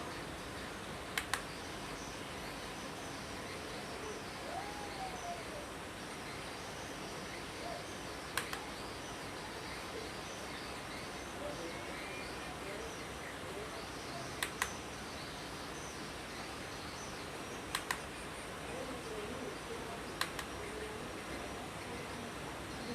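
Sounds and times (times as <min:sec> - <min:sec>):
background hiss: 0:00.0 - 0:22.9
faint bird chirps: 0:00.0 - 0:22.9.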